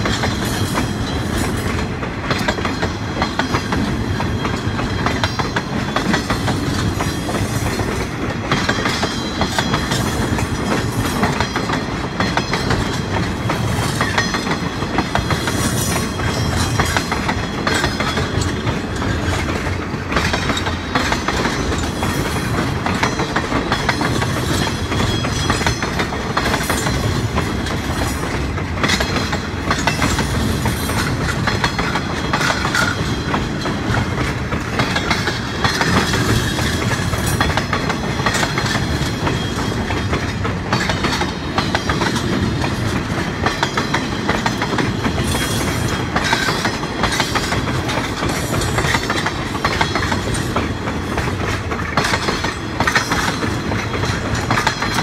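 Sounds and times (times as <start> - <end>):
railway cars clanking: 0.0 - 55.0
train rumble: 0.0 - 55.0
train wheels clicking over rail joints: 0.0 - 55.0.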